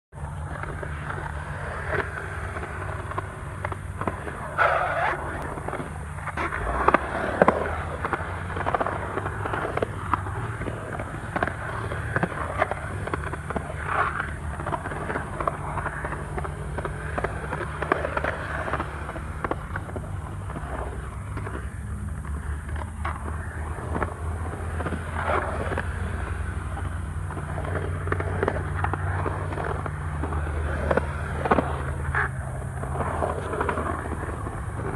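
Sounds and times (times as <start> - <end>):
skateboard wheels rolling on concrete: 0.1 - 34.9
skateboard clacks and knocks: 0.3 - 34.9.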